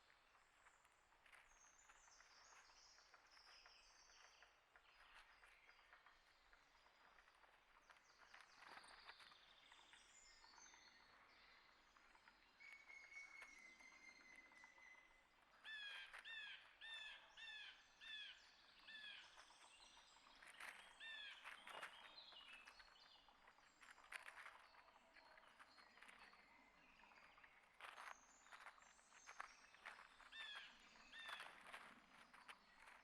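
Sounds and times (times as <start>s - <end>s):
soft ticks and rustles: 0.0s - 33.0s
songbirds chirping: 0.0s - 33.0s.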